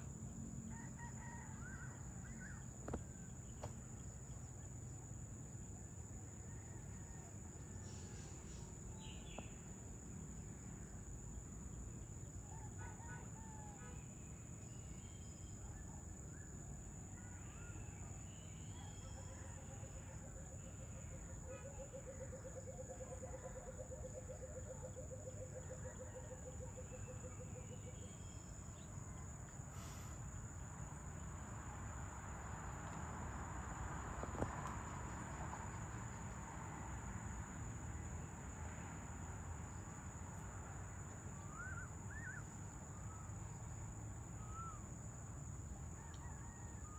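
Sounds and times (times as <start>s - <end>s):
crickets droning: 0.0s - 46.9s.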